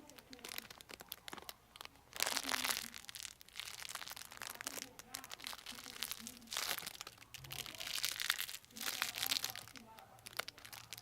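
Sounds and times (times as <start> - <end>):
crinkling and crunching handling noise: 0.0 - 11.0.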